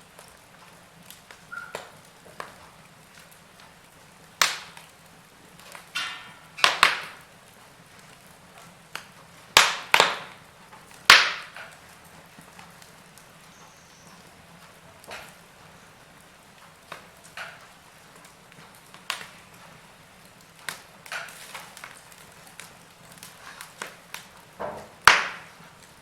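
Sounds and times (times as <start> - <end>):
faint steady hiss: 0.0 - 26.0
fire pops and snaps: 0.0 - 26.0.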